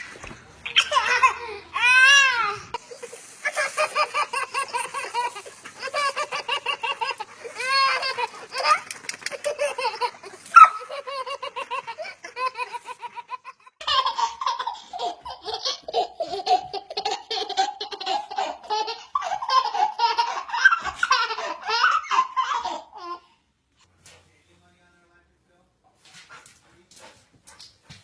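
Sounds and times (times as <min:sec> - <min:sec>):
small child laughing: 0:00.6 - 0:23.3.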